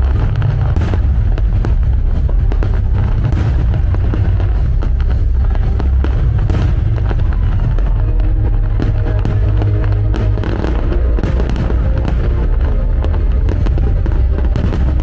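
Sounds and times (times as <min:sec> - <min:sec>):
fireworks crackling and popping: 0:00.0 - 0:15.0
loud music with heavy bass: 0:00.0 - 0:15.0.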